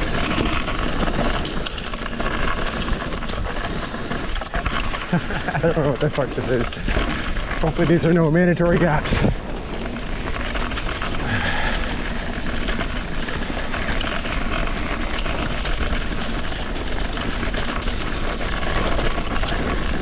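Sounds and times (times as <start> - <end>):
bike clicks and rattles: 0.0 - 20.0
bike tyre rolling on dirt: 0.0 - 20.0.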